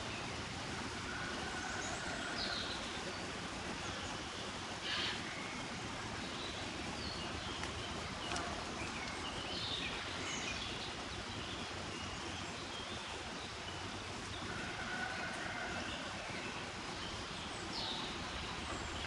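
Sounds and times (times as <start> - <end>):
outdoor ambient noise: 0.0 - 19.0.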